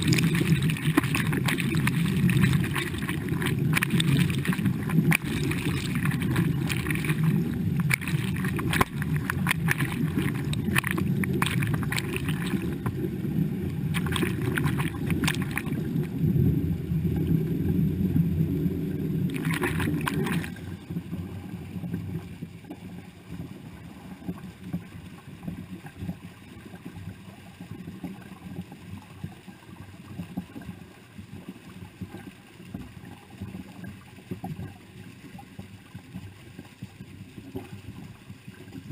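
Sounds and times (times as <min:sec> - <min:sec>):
water gurgling flow: 0:00.0 - 0:38.9
water splashing and gushing: 0:00.0 - 0:38.9.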